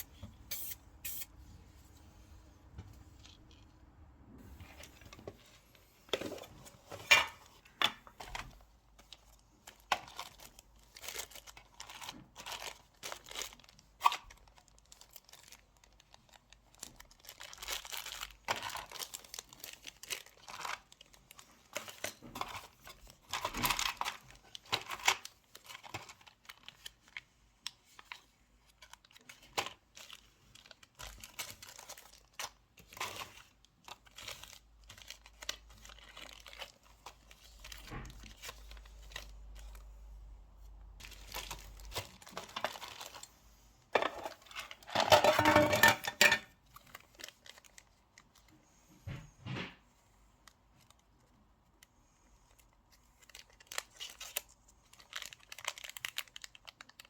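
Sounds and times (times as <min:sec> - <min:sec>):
crinkling and rustling handling: 0:00.0 - 0:57.0.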